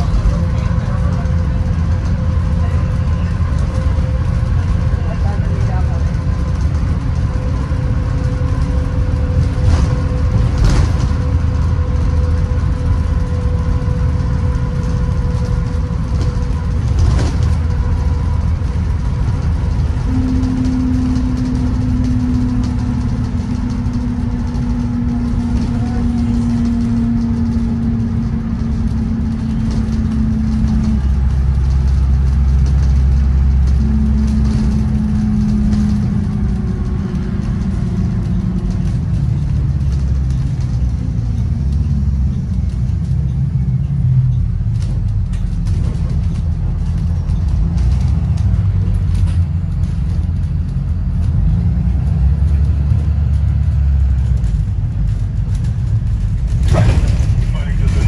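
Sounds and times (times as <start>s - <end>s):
bus engine and road rumble: 0.0s - 58.0s
humming drone: 0.0s - 58.0s.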